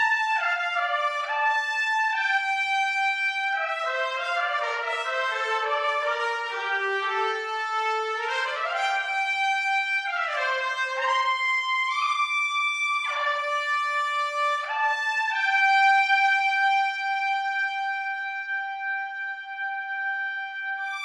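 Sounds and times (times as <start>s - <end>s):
trumpet ensemble playing legato: 0.4s - 12.0s, 13.0s - 21.0s.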